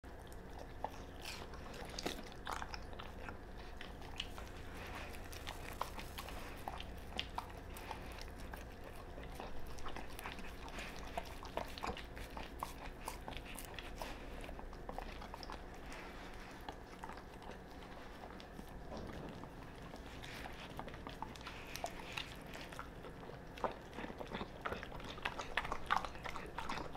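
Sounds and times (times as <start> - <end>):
dog chewing meat: 0.0 - 26.9.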